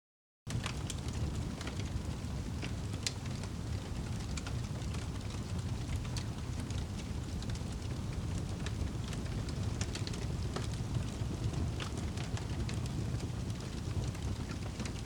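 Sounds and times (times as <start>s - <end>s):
fire crackling and popping: 0.5s - 15.0s.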